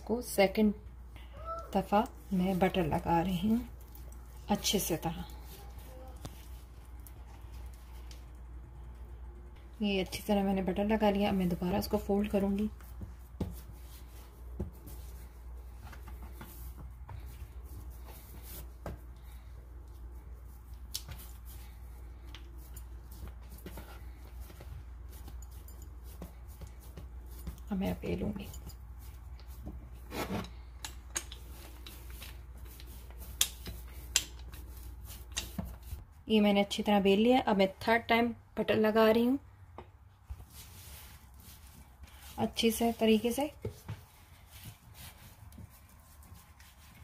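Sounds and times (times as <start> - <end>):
soft dough handling: 0.0 - 47.0
steady low hum: 0.0 - 47.0.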